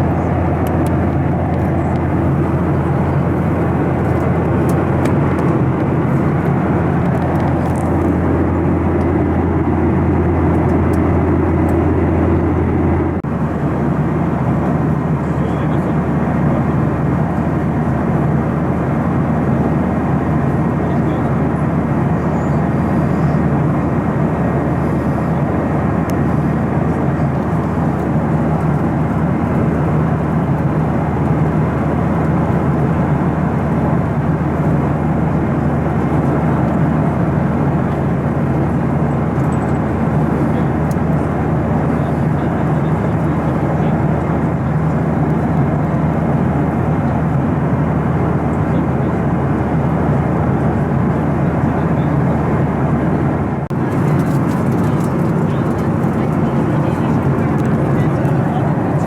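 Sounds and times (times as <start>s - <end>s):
airliner cabin roar: 0.0s - 59.0s.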